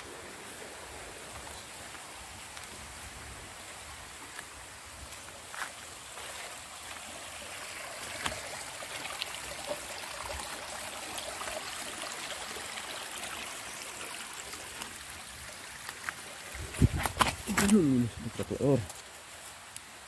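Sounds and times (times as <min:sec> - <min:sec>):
stream running water: 0:00.0 - 0:20.0.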